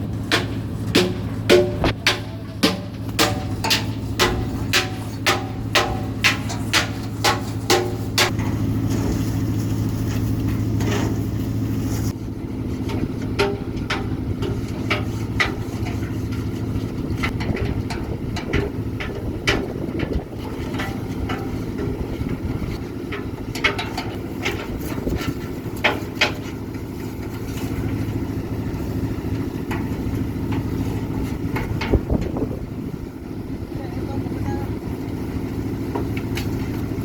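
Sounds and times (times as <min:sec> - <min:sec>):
machine engine running: 0:00.0 - 0:37.0.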